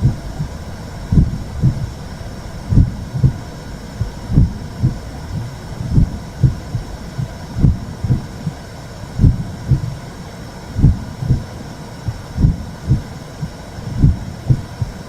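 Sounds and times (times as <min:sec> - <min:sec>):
heartbeat thumps: 0:00.0 - 0:08.6, 0:09.2 - 0:10.0, 0:10.8 - 0:11.5, 0:12.1 - 0:15.0
low whooshing noise: 0:00.0 - 0:15.0.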